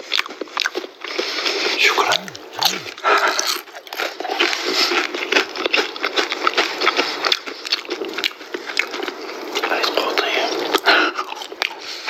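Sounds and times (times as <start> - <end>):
chewing and crunching fried food: 0.0 - 12.0.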